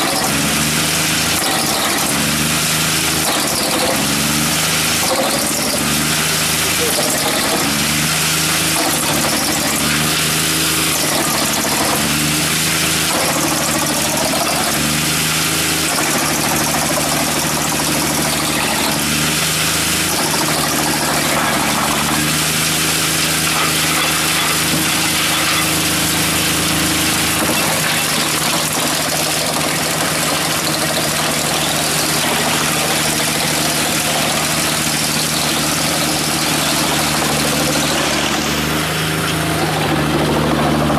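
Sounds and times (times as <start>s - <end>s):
wood chipper running: 0.0s - 40.9s.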